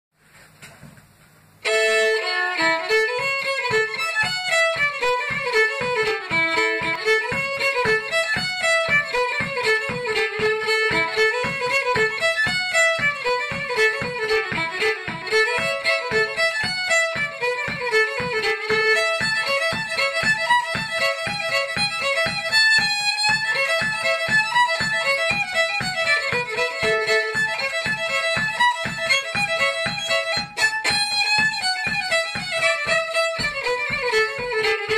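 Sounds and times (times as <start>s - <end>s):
fiddle playing lively tune: 1.6s - 34.9s.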